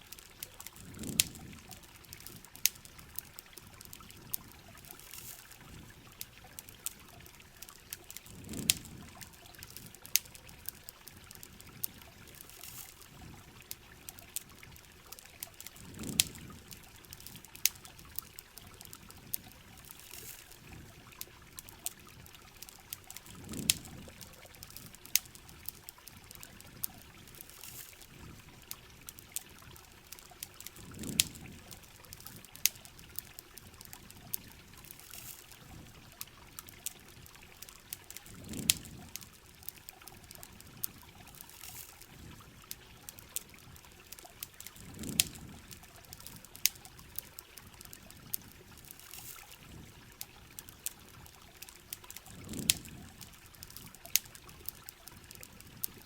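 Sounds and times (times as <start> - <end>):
campfire crackling: 0.0 - 56.0
steady rain: 0.0 - 56.0.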